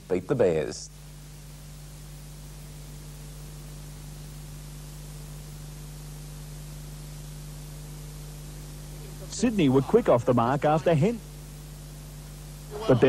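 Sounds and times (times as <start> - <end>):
low electrical hum: 0.0 - 13.0
tape hiss: 0.0 - 13.0.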